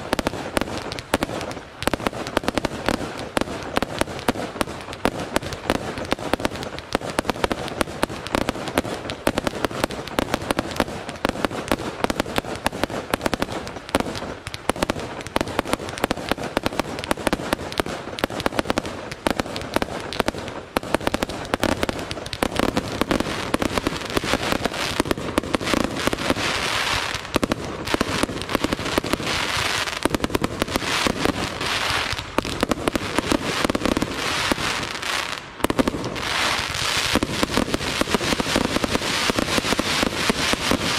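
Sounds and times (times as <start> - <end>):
crackling firework stars hissing: 0.0 - 40.9.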